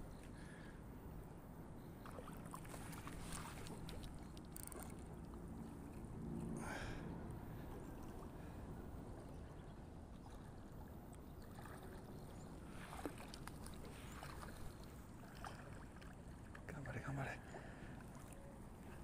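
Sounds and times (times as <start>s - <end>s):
low rumble of water and wind: 0.0s - 19.0s.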